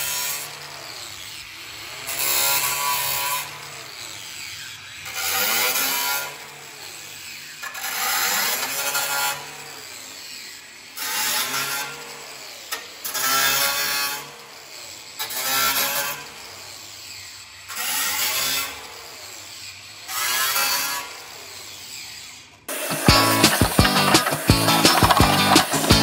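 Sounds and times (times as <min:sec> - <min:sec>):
angle grinder cutting metal: 0:00.0 - 0:26.0.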